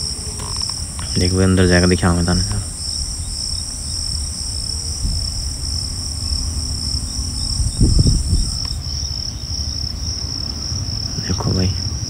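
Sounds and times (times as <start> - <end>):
insects trilling: 0.0 - 12.0
low rumble: 0.0 - 12.0.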